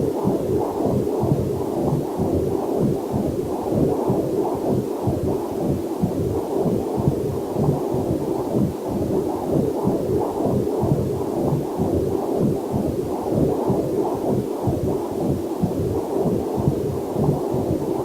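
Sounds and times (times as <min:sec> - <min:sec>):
doppler heartbeat pulse: 0:00.0 - 0:18.0.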